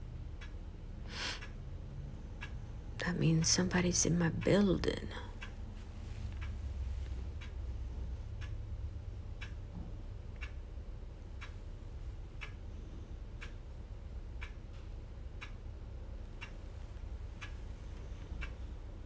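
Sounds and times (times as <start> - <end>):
clock ticking: 0.0 - 19.0
low steady hum: 0.0 - 19.0.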